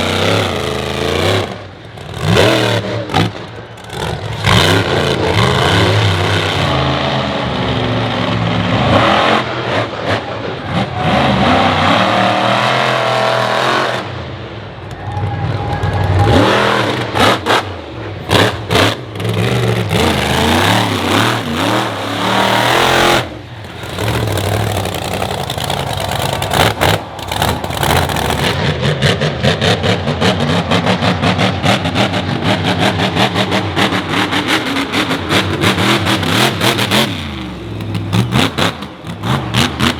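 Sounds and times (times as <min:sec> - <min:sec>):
monster truck engines revving: 0:00.0 - 0:39.9.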